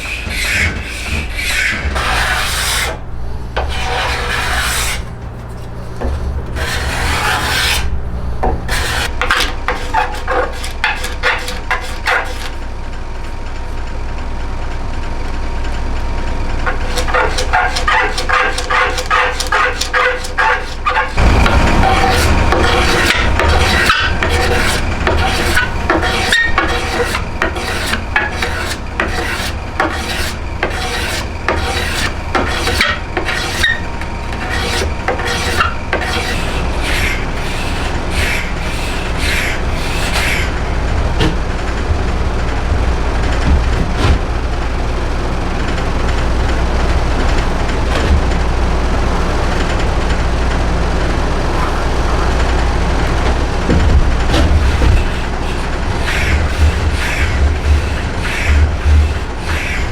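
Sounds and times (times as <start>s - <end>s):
hand tool rasping wood: 0.0s - 12.7s, 16.6s - 44.3s, 51.6s - 59.9s.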